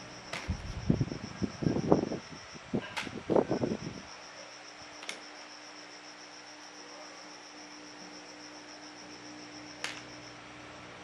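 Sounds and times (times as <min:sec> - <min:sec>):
insect trilling: 0:00.0 - 0:10.4.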